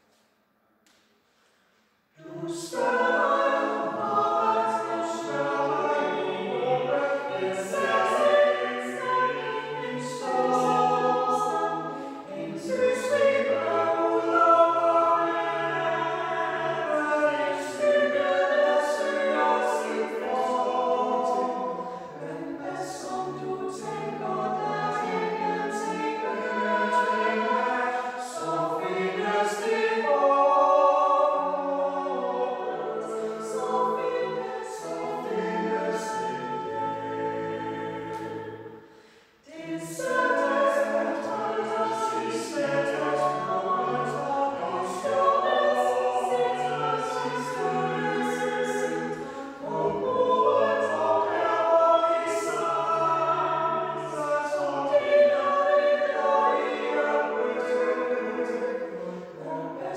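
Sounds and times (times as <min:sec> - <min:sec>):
choir singing a cappella: 0:02.1 - 0:59.9.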